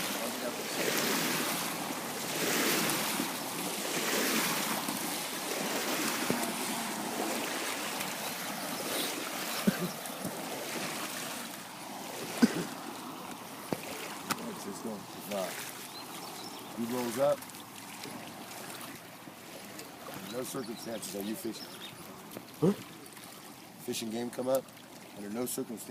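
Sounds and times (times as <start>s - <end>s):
waves washing in: 0.0s - 25.9s.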